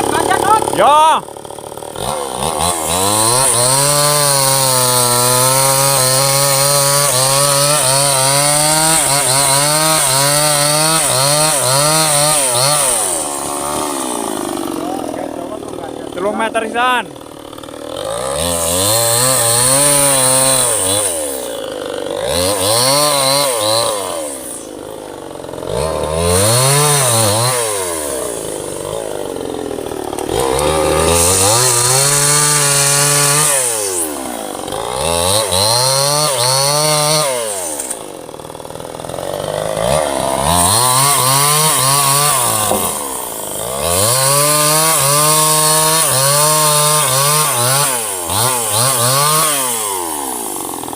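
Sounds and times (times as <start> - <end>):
chainsaw cutting log: 0.0 - 50.9.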